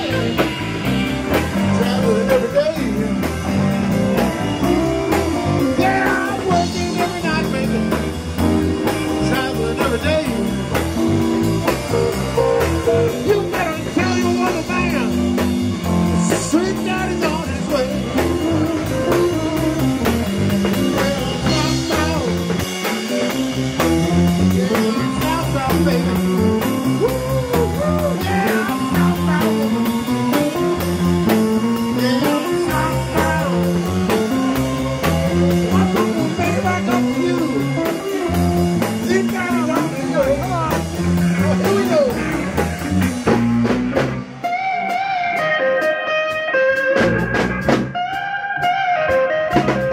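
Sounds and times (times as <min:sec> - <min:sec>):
bass line: 0:00.0 - 0:49.9
blues-rock band playing: 0:00.0 - 0:49.9
electric guitar: 0:00.0 - 0:49.9.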